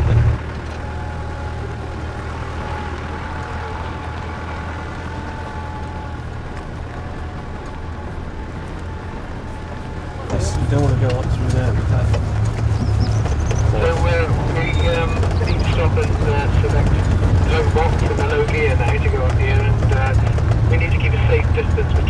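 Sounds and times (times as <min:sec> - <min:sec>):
vehicle engine humming from inside: 0:00.0 - 0:22.0.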